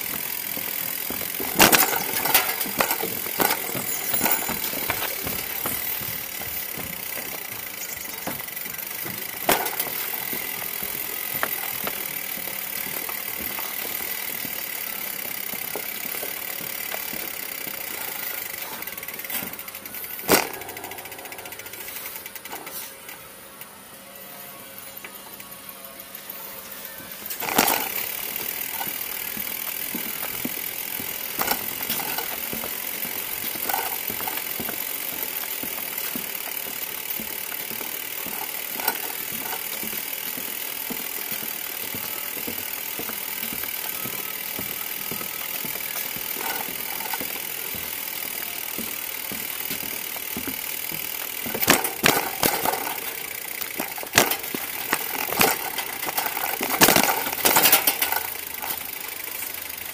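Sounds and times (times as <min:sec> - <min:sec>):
bicycle knocking over bumps: 0:00.0 - 0:22.9, 0:27.2 - 0:59.9
bicycle rolling and rattling: 0:00.0 - 0:59.9.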